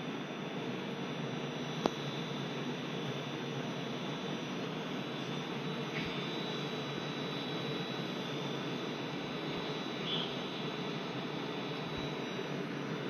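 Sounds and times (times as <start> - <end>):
faint high whine: 0.0 - 13.0
stationary train hum and hiss: 0.0 - 13.0.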